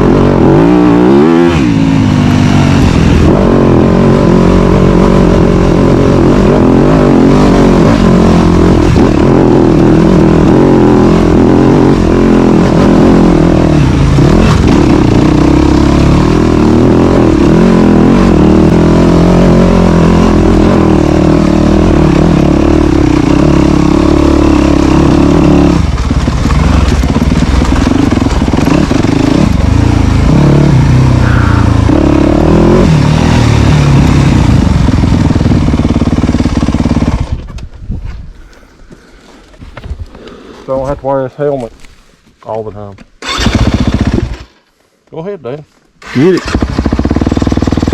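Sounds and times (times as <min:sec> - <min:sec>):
dirt bike engine revving: 0:00.0 - 0:37.4, 0:43.2 - 0:44.6, 0:46.0 - 0:47.9.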